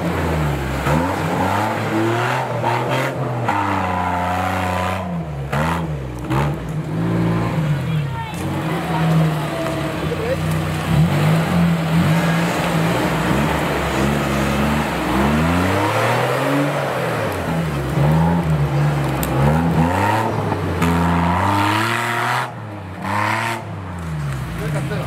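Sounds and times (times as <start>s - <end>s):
off-road engine revving hard: 0.0s - 25.0s.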